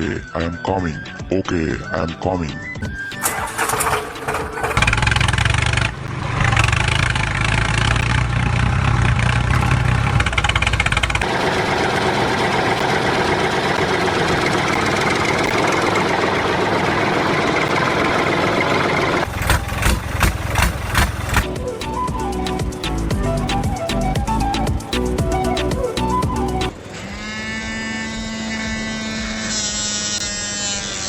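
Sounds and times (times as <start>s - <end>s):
tractor engine rumbling: 0.0s - 27.1s.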